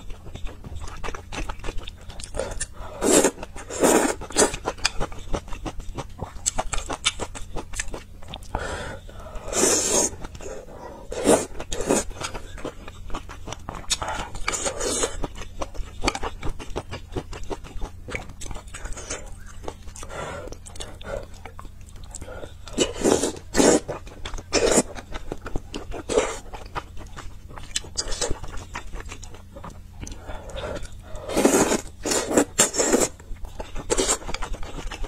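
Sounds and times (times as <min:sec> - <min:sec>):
chewing with mouth clicks: 0:00.0 - 0:35.0.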